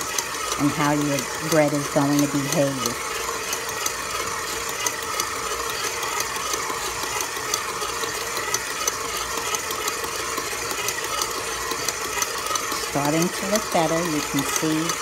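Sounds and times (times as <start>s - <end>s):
dough hook rattling in bowl: 0.0s - 15.0s
stand mixer motor whine: 0.0s - 15.0s.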